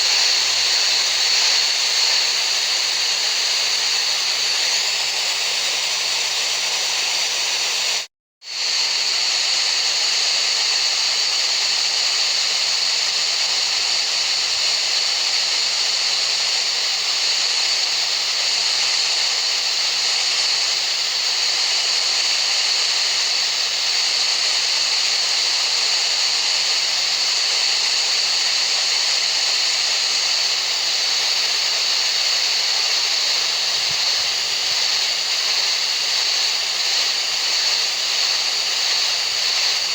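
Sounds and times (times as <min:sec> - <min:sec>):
high-pitched masking noise hiss: 0:00.0 - 0:39.9.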